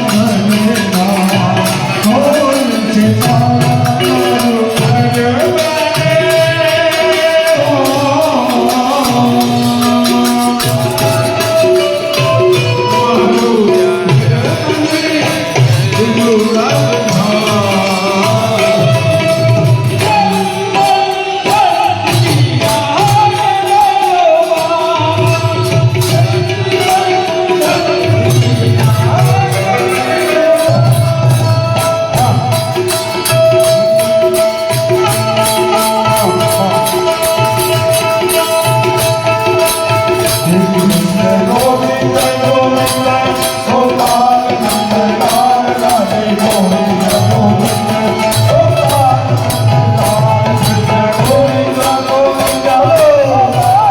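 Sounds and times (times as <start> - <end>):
hand percussion: 0.0 - 53.9
person singing: 0.0 - 53.9.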